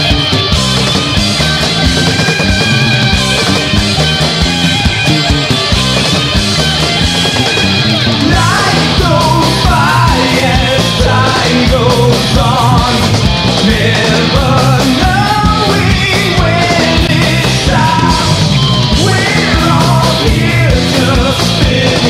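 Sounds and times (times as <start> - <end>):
metal band playing: 0.0 - 22.0.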